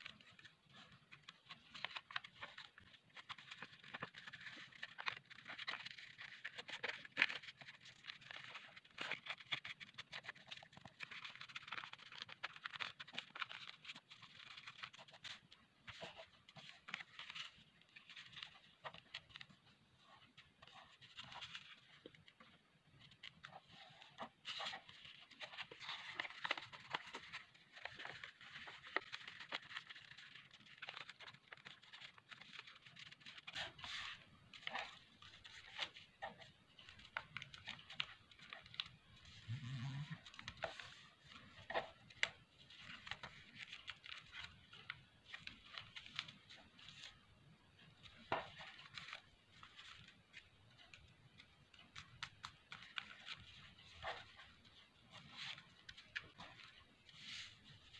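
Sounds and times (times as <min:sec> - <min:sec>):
paper crackling: 0:00.0 - 0:57.9
paper rustling and crinkling: 0:00.0 - 0:57.9.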